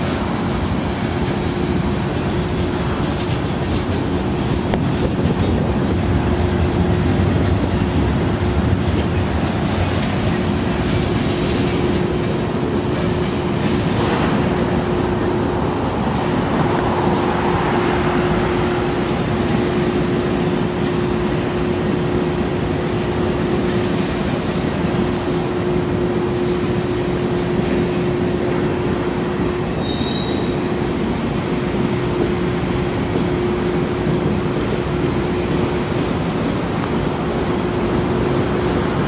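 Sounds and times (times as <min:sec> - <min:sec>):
freight train rumbling: 0:00.0 - 0:39.0.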